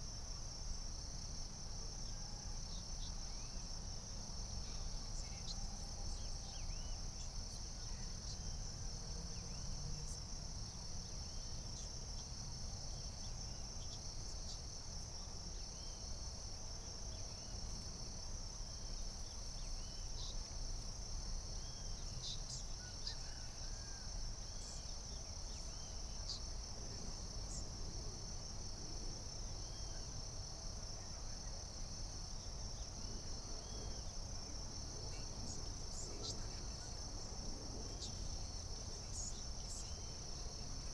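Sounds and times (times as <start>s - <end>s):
crickets trilling: 0.1s - 40.9s.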